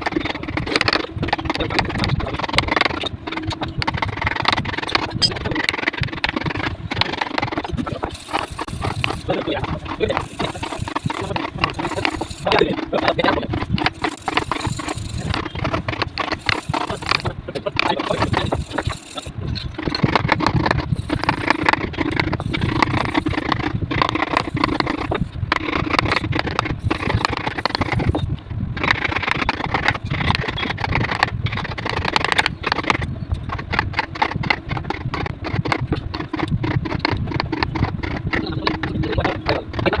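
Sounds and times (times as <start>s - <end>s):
steady hum: 0.0s - 40.0s
tool rasping wood: 0.0s - 40.0s.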